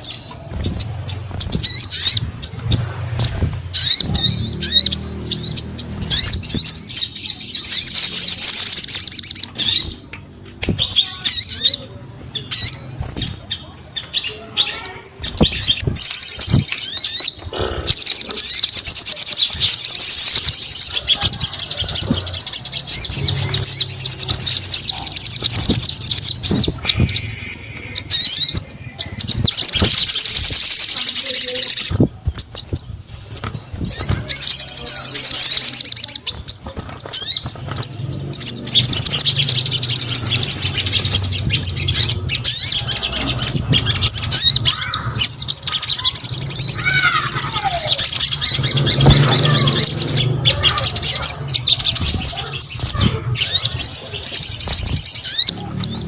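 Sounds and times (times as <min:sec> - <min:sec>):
bird twittering: 0:00.0 - 0:56.0.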